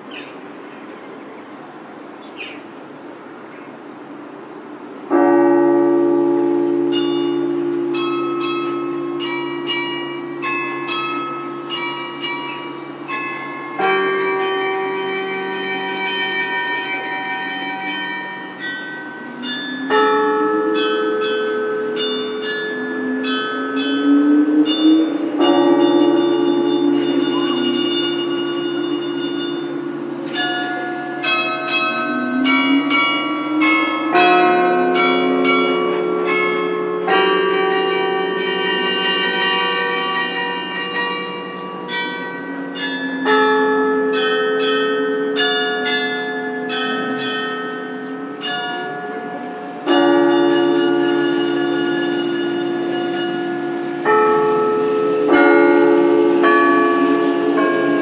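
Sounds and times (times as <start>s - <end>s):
carillon bell melody: 5.1s - 58.0s
deep held bell notes: 5.1s - 58.0s.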